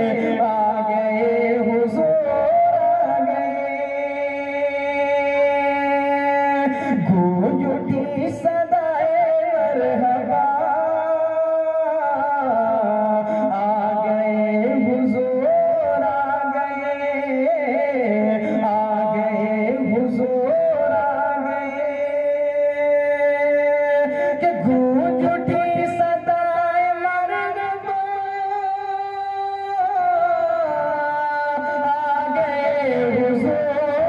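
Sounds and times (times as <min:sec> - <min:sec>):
man singing into a microphone: 0:00.0 - 0:34.0.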